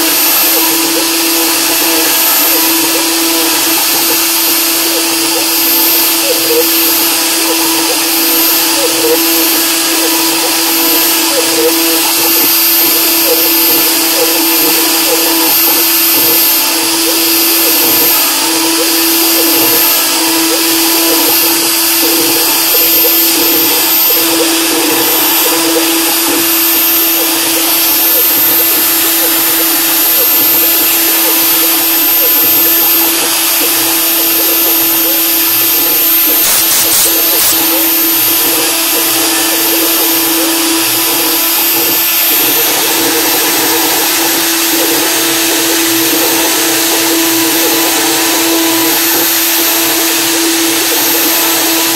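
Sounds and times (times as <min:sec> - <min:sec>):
bit cutting metal: 0:00.0 - 0:51.9
milling spindle whine: 0:00.0 - 0:51.9.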